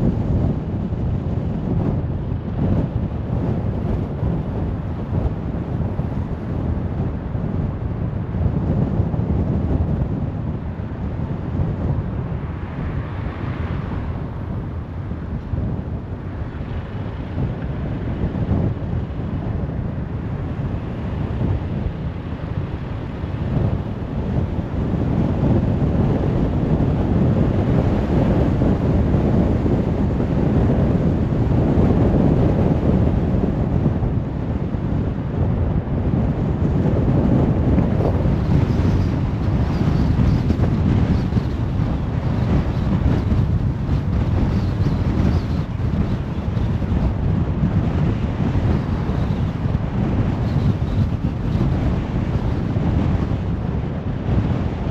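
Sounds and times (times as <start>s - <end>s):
car road noise rumble: 0.0s - 54.9s.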